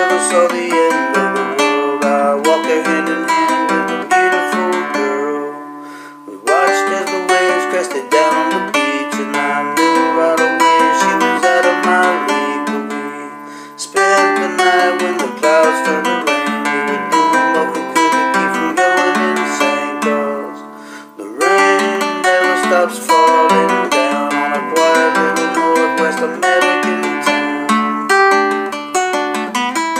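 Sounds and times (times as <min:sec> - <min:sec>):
acoustic guitar solo: 0:00.0 - 0:29.9.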